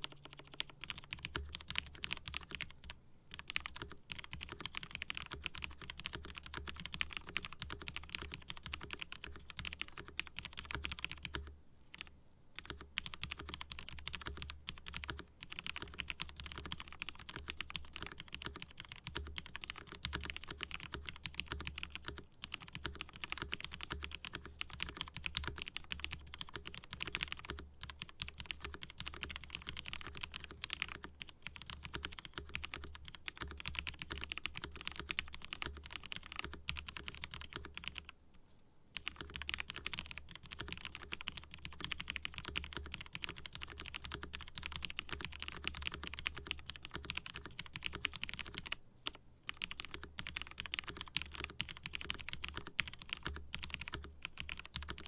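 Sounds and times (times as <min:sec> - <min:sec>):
rapid mechanical keyboard typing: 0:00.0 - 0:38.1, 0:39.0 - 0:55.0.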